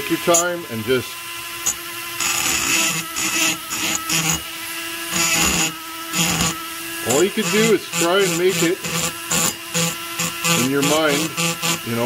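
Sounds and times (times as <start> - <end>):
rotary grinder whining: 0.0 - 12.0.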